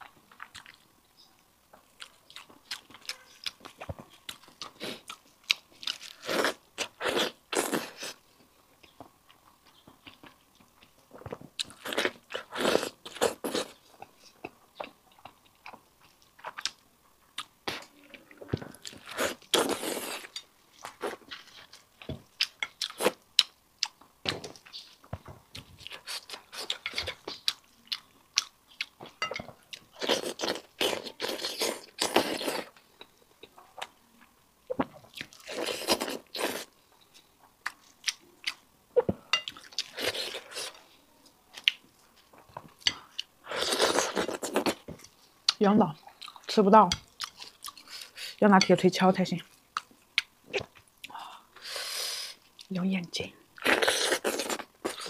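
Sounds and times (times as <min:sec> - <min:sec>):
wet chewing and crunching: 0:00.0 - 0:40.9, 0:41.5 - 0:48.7, 0:53.5 - 0:55.0.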